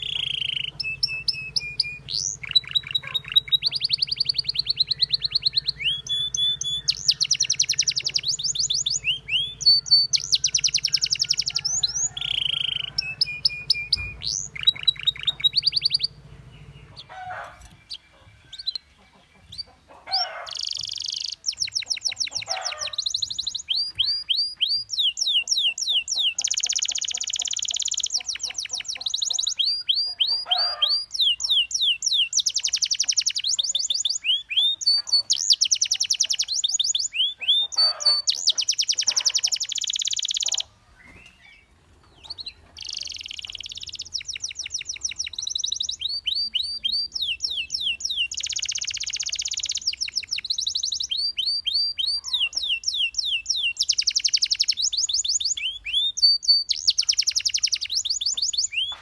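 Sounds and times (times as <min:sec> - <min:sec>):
canary singing in trills: 0:00.0 - 0:59.0.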